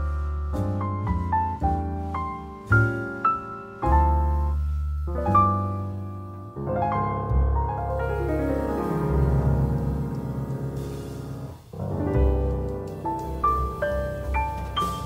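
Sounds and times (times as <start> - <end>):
low bass: 0.0 - 15.0
piano background music: 0.0 - 15.0.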